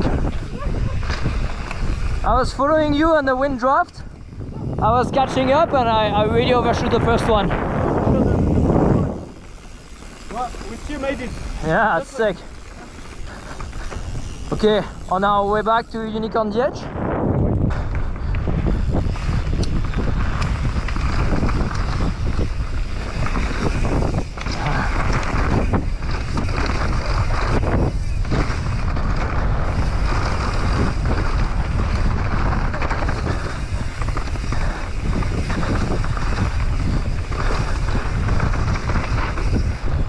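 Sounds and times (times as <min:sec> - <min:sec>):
bike tyres rolling on dirt: 0:00.0 - 0:40.0
wind rushing over microphone: 0:00.0 - 0:40.0.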